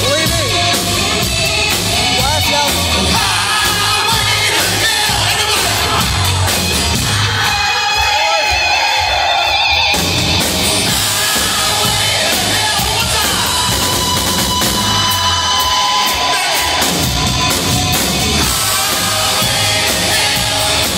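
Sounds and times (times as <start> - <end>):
drums: 0.0 - 20.9.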